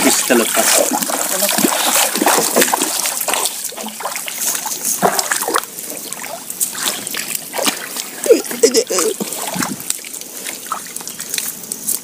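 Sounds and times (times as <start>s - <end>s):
water dripping: 0.0s - 12.0s
water trickling and splashing: 0.0s - 12.0s.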